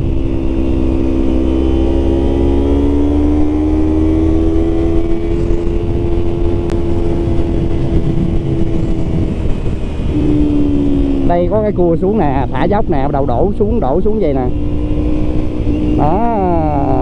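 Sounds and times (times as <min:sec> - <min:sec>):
motorcycle engine under throttle: 0:00.0 - 0:17.0
wind rushing over microphone: 0:00.0 - 0:17.0.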